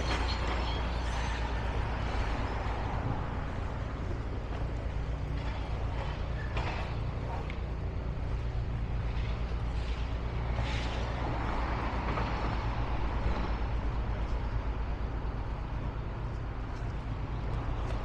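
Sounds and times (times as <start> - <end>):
heavy vehicle engine rumbling: 0.0 - 18.0.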